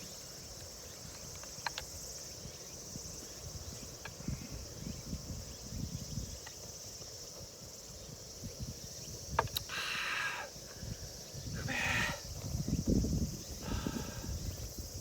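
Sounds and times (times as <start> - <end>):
insect chirring: 0.0 - 15.0
wind rumbling on microphone: 2.0 - 15.0.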